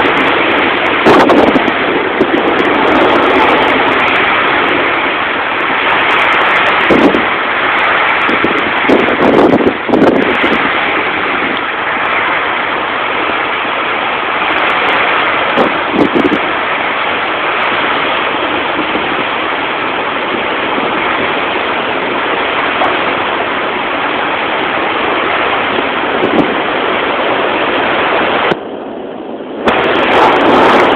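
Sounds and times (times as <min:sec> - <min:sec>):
hurricane wind and rain: 0:00.0 - 0:30.9
wind gusts buffeting microphone: 0:00.0 - 0:30.9.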